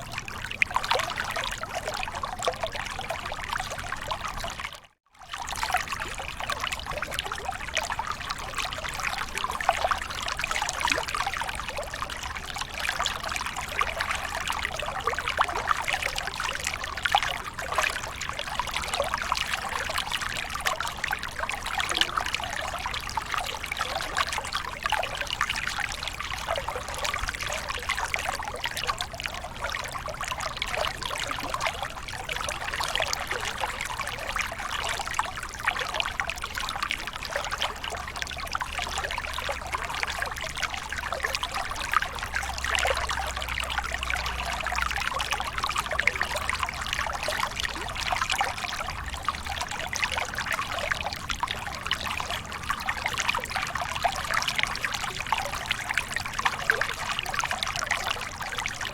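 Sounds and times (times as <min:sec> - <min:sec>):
small waterfall pouring and splashing: 0:00.0 - 0:58.9.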